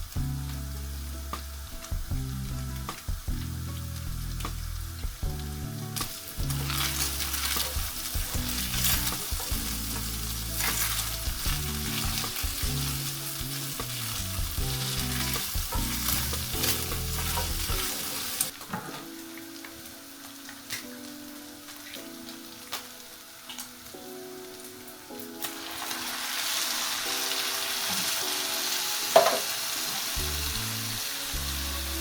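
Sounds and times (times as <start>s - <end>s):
meat sizzling in a pan: 0.0s - 32.0s.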